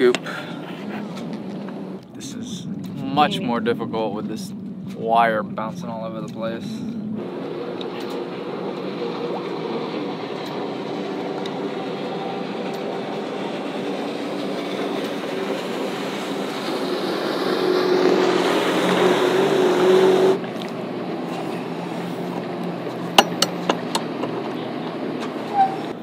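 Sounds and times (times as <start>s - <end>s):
motorboat engine drone: 0.0s - 26.0s.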